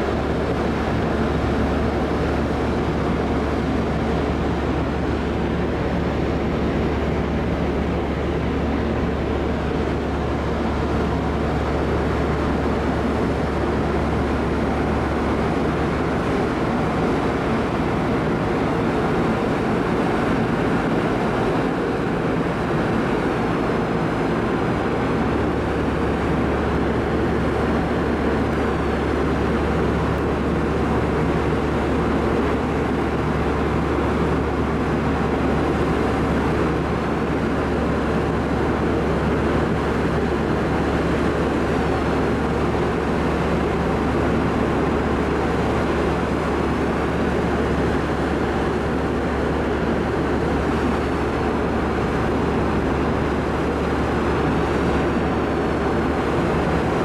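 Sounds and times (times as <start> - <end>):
ferry machinery drone: 0.0 - 57.0.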